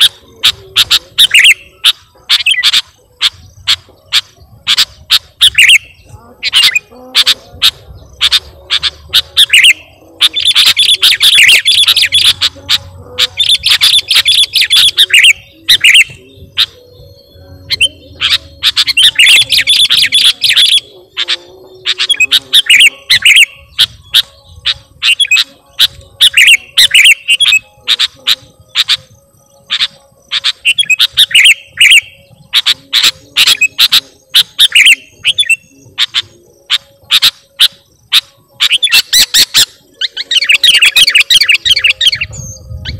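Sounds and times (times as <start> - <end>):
bulbul singing: 0.0 - 42.9.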